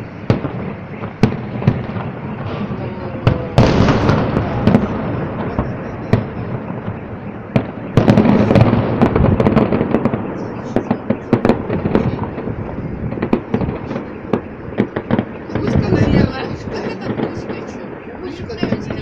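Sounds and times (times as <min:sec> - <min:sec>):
fireworks bangs echoing: 0:00.0 - 0:19.0
fireworks dense crackling: 0:00.0 - 0:19.0.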